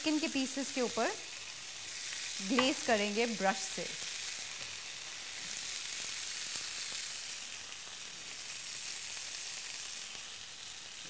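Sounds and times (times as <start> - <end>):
chicken sizzling on a grill pan: 0.0 - 11.0.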